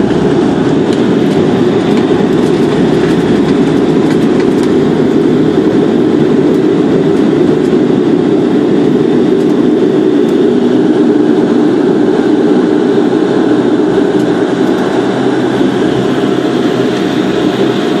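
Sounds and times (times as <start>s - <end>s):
turboprop engine roar: 0.0s - 18.0s.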